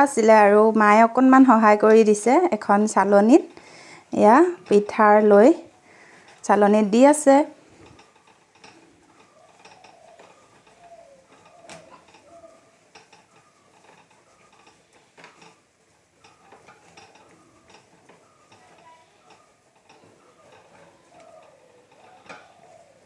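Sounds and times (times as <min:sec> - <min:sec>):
dough scratching on bamboo sieve: 0:00.0 - 0:23.0.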